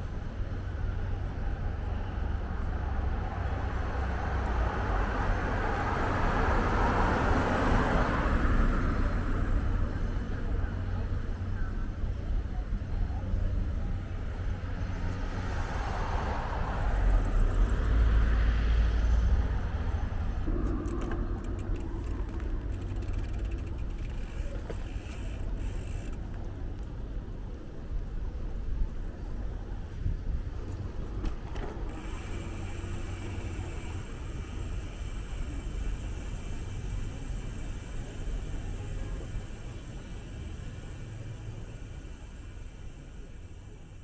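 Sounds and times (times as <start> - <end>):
road traffic rumble: 0.4 - 44.0.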